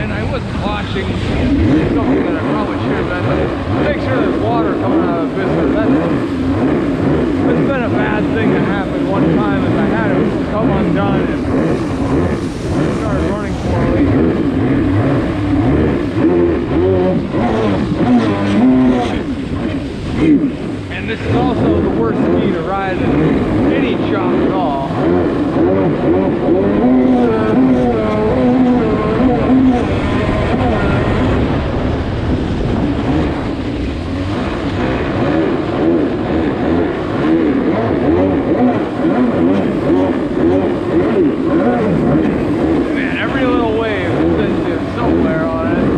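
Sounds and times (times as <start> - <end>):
jet ski engine revving: 0.0 - 45.9.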